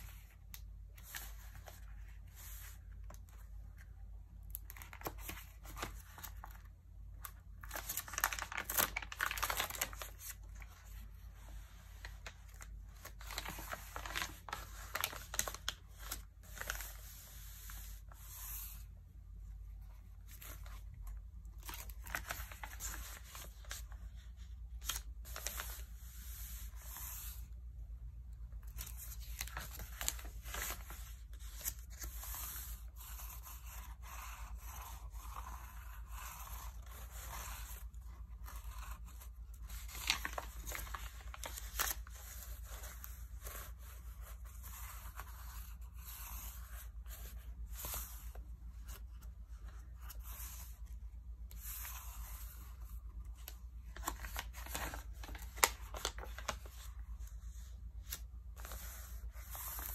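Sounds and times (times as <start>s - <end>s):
pages turning over: 4.5s - 18.8s, 19.9s - 27.6s, 28.6s - 59.9s
magazine pages rustling: 4.5s - 18.9s, 19.8s - 27.6s, 28.5s - 59.9s.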